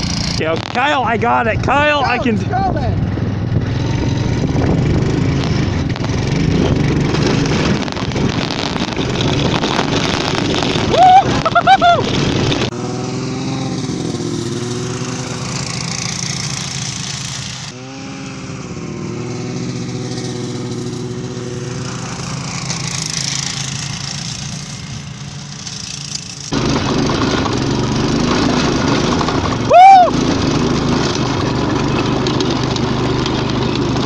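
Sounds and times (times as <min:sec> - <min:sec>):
distant snowmobile engine: 0:00.0 - 0:34.0
rough snowmobile engine on board: 0:00.0 - 0:34.0.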